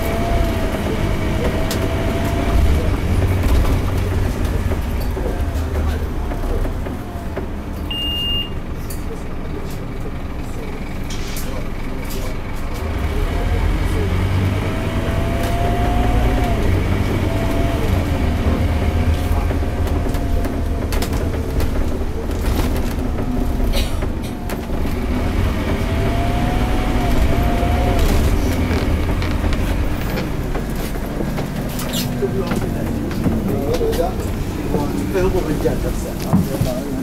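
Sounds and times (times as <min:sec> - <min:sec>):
bus engine rumble: 0:00.0 - 0:37.0
rattles through bus body: 0:00.0 - 0:37.0.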